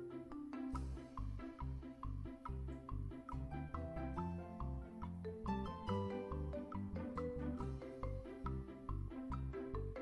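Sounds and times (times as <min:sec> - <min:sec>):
mallet-like notes: 0:00.0 - 0:10.0
upbeat latin background music: 0:00.0 - 0:10.0
bouncing bass line: 0:01.6 - 0:10.0.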